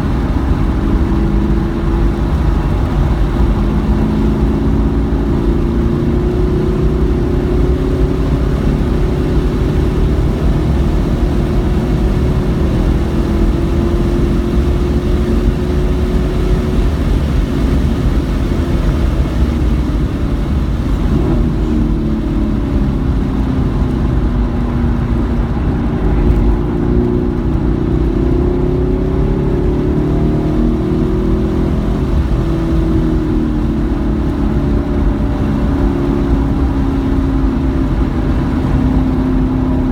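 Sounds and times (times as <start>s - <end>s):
car engine revving hard: 0.0s - 39.9s
road and wind noise: 0.0s - 39.9s.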